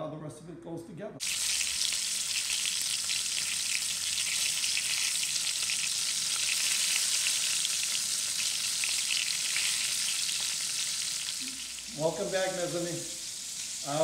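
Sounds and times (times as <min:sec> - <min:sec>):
chicken sizzling in a pan: 0:01.2 - 0:14.0.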